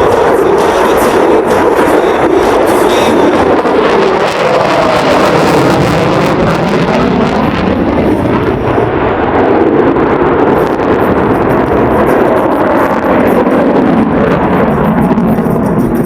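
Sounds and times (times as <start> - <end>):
aircraft engine noise: 0.0 - 16.0.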